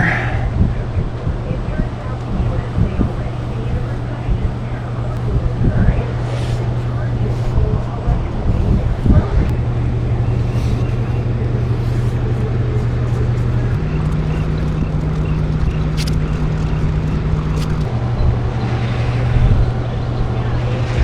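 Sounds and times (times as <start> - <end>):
motor humming: 0.0 - 21.0.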